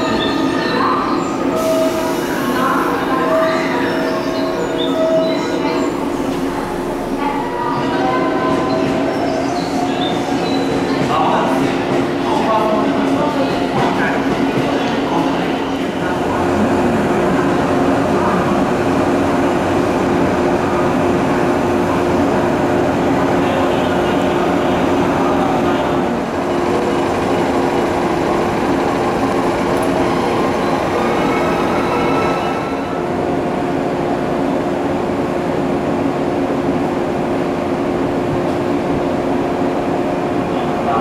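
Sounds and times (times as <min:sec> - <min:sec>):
electric train equipment humming: 0:00.0 - 0:41.0
steady background noise: 0:00.0 - 0:41.0.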